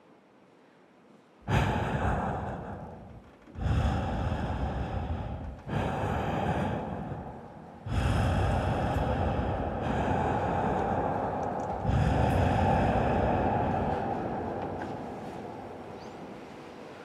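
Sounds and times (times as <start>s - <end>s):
breath-like rushes of noise: 1.4s - 17.0s.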